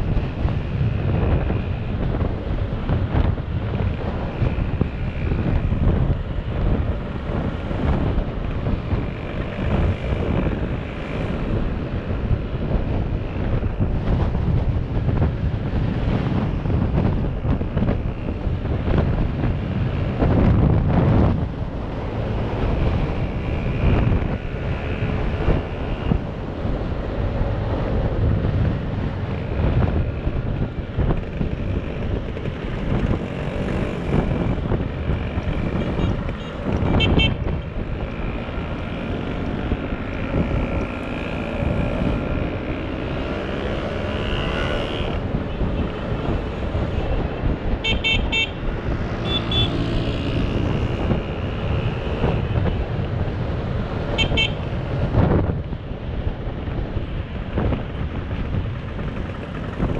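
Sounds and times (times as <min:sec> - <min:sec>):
motor scooter engines running: 0:00.0 - 0:59.9.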